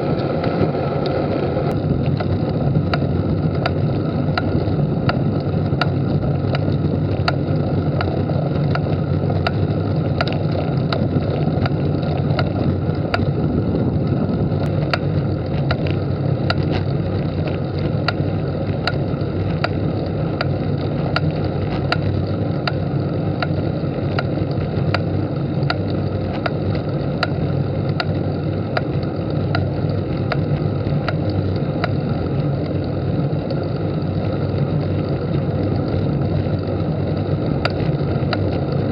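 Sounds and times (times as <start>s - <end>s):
road noise: 0.0s - 38.9s
wind noise: 0.0s - 38.9s
bicycle ticking: 1.7s - 38.9s.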